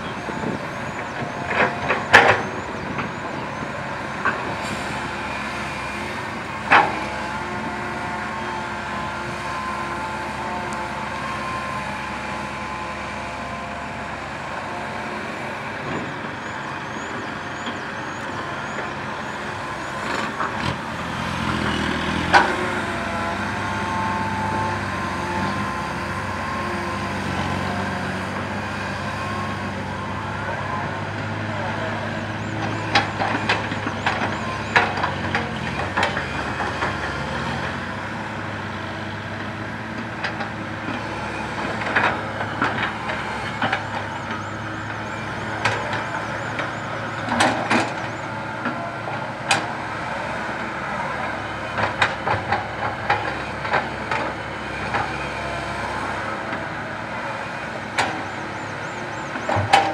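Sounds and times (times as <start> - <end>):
diesel engines running: 0.0 - 59.9.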